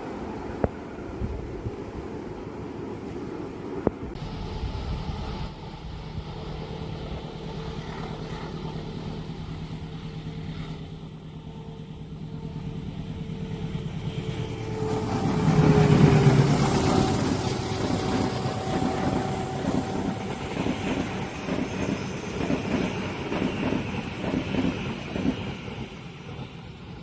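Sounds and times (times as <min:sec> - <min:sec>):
fast pulsing train rumble: 0:00.0 - 0:27.0
train engine hum: 0:00.0 - 0:27.0.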